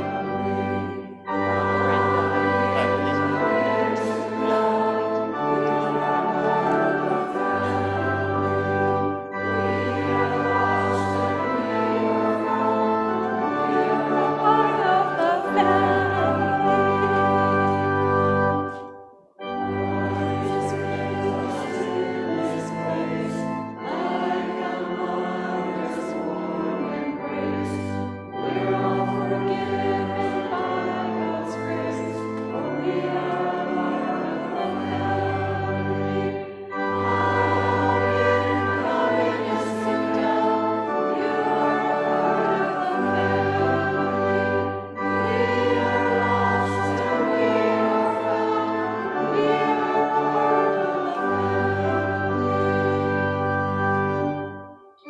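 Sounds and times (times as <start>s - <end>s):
congregation singing a hymn: 0.0s - 55.0s
instrumental accompaniment: 0.0s - 55.0s.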